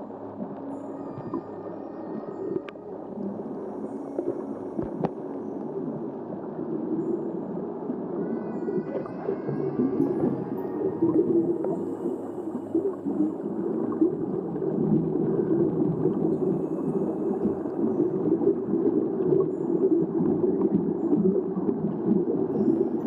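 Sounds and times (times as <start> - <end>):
underwater rushing water: 0.0 - 23.0
bubbles crackling: 4.2 - 23.0.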